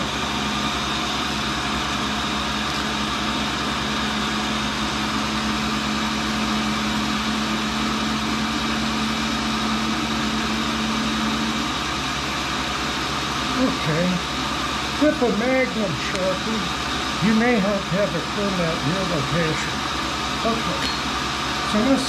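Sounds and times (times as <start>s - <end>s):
grinder machine humming: 0.0s - 22.0s.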